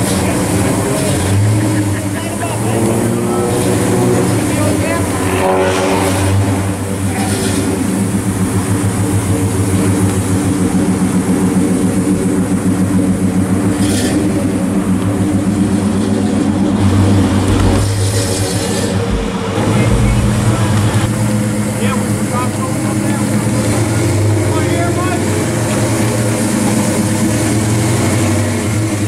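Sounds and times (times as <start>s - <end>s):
car exhaust idling: 0.0s - 29.0s.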